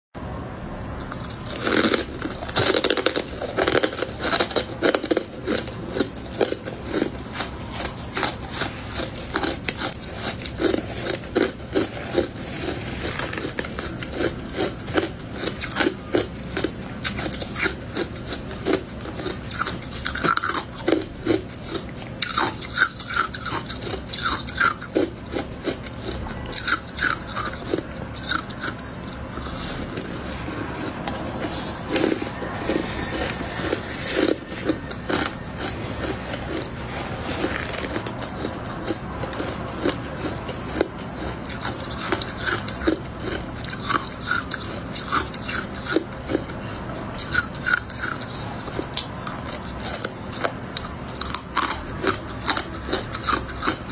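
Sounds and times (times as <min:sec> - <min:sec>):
chewing crunchy frost: 0:01.0 - 0:53.9.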